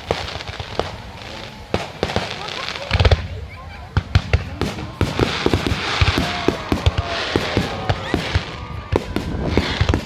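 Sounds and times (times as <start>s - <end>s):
fireworks bangs and pops: 0.0s - 10.0s
fireworks crackling: 0.0s - 10.0s
fireworks whistling: 0.0s - 10.0s.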